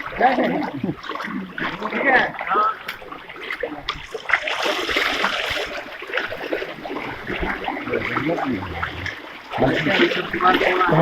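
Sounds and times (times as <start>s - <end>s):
floodwater splashing: 0.0s - 11.0s.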